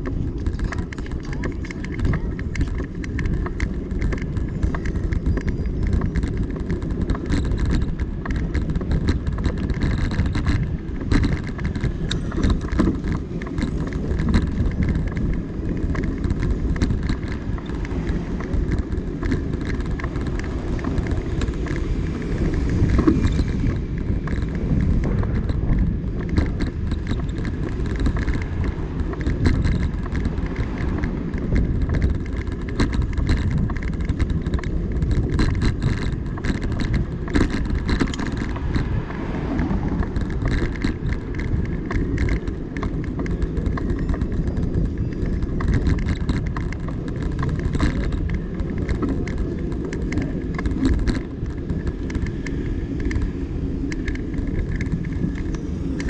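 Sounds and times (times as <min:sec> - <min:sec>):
bike tyre rumble on asphalt: 0:00.0 - 0:56.0
small rattles and knocks: 0:00.0 - 0:56.0
wind rush on microphone: 0:00.0 - 0:56.0.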